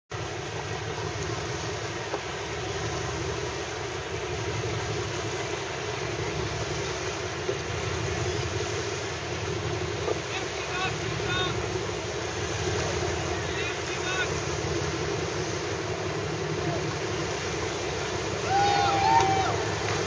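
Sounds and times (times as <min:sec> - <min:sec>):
boat engine droning: 0:00.1 - 0:20.0.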